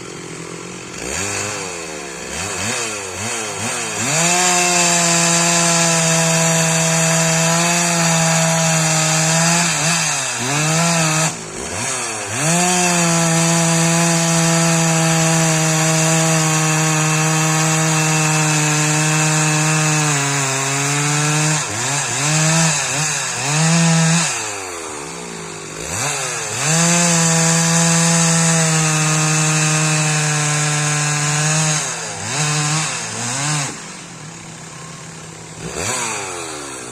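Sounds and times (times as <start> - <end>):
chainsaw at full throttle cutting: 0.0 - 36.9.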